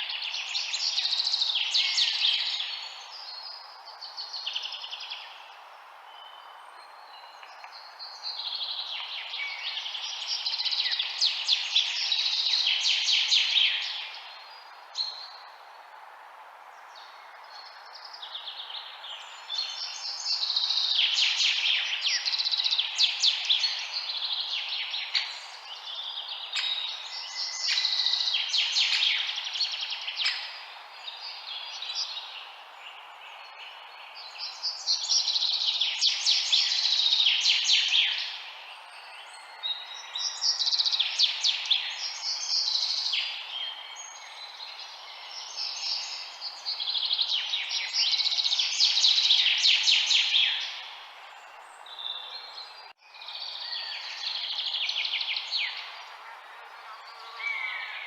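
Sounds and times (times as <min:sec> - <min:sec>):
small birds chirping and trilling: 0:00.0 - 0:15.6, 0:16.8 - 0:58.0
steady background hiss: 0:00.0 - 0:58.0.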